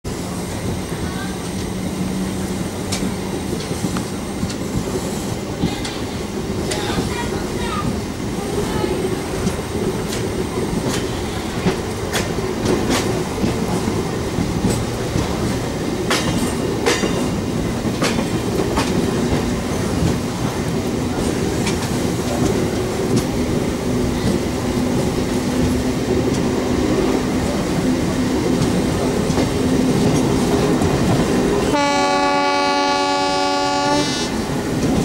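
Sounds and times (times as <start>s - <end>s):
train rumble and hum: 0.0s - 35.0s.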